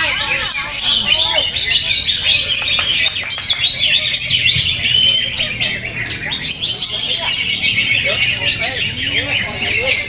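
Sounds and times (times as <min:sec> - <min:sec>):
birds singing chirps and whistles: 0:00.0 - 0:10.0.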